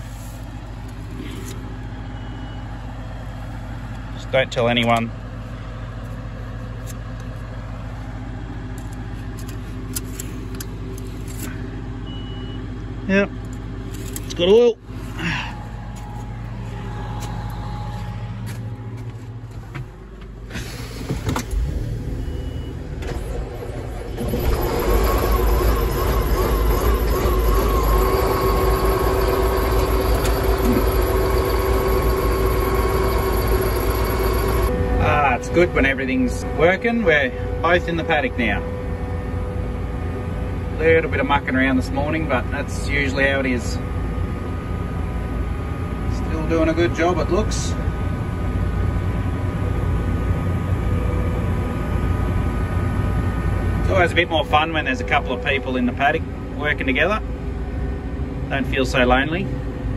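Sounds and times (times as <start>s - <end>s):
steady whine: 0.0s - 59.9s
tractor diesel engine idling: 0.0s - 59.9s.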